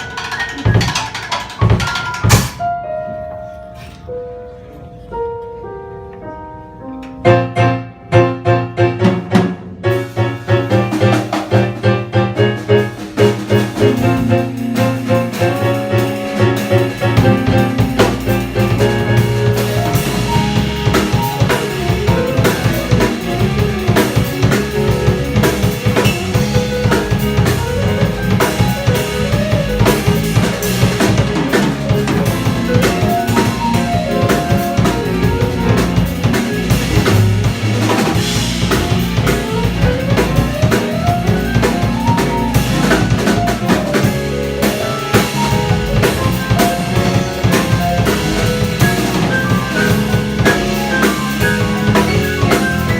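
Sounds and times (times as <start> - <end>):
busy drumming on snare and bass drum: 0.0 - 2.6, 9.0 - 52.9
jazz band playing: 0.0 - 52.9
walking bass: 8.9 - 52.9.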